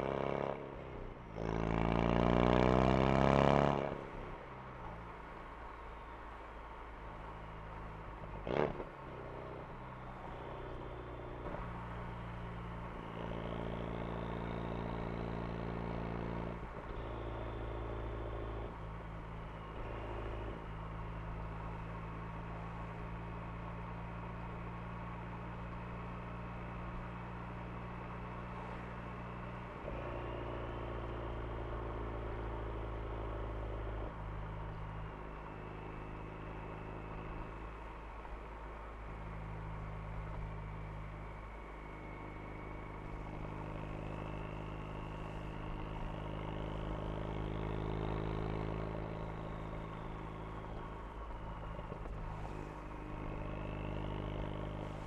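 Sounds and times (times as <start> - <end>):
car engine and exhaust droning: 0.0 - 55.0.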